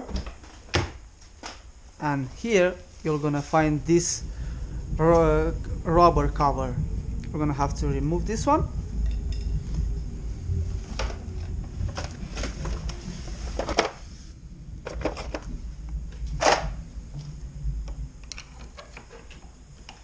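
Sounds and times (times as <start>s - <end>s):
low handling rumble: 1.0s - 20.0s.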